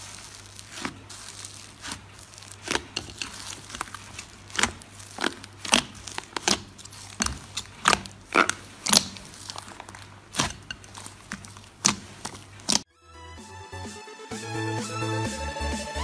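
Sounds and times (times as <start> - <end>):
slime crackling pops: 0.0 - 12.9.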